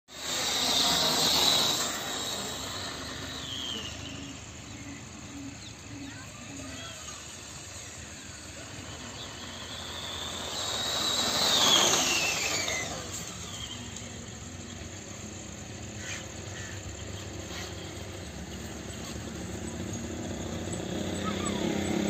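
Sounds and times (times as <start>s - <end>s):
low engine sound: 0.1s - 22.0s
vehicle passing with whine: 0.1s - 22.0s.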